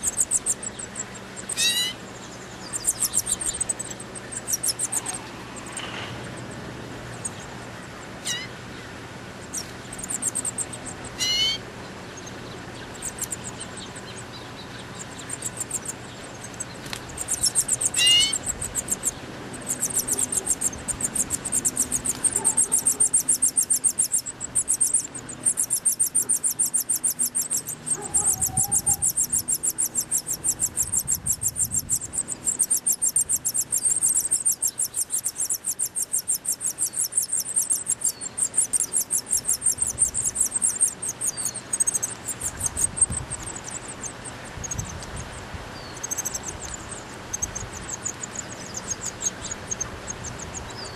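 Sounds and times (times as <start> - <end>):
nestling birds chittering: 0.0 - 50.9.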